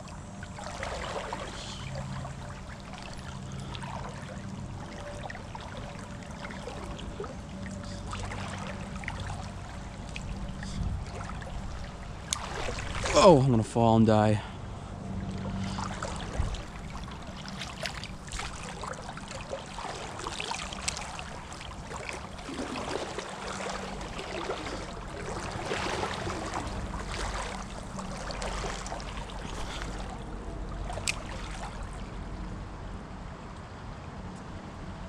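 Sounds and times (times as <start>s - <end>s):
creek water running: 0.0s - 32.5s
splashes of wading: 0.0s - 32.5s.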